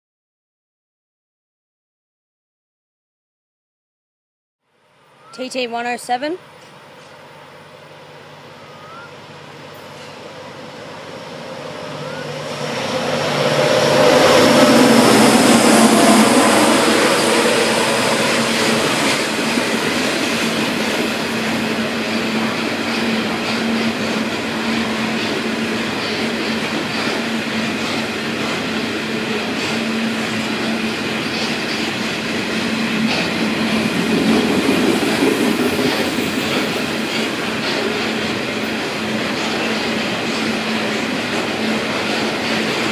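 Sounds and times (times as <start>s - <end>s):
diesel locomotive passing: 4.8s - 42.9s.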